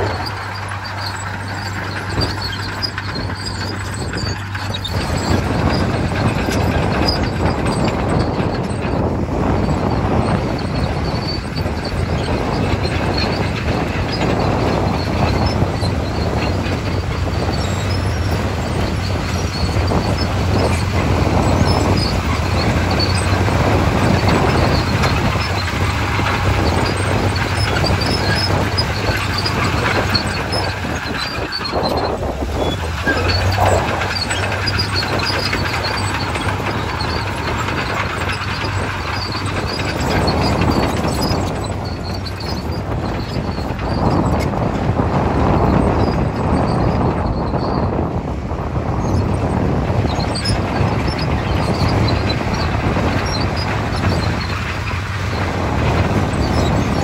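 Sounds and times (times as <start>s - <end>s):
bulldozer diesel engine running: 0.0s - 57.0s
steel tracks clanking and squeaking: 0.0s - 57.0s.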